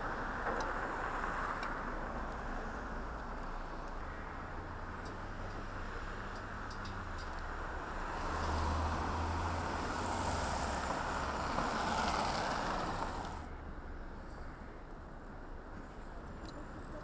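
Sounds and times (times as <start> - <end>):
cars passing on street: 0.0 - 17.0.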